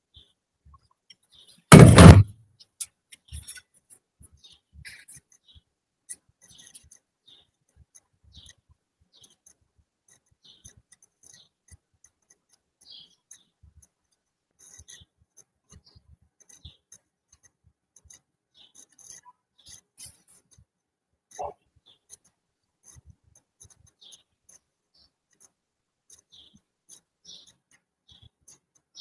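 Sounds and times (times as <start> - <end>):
faint irregular clicks: 2.7 - 29.0.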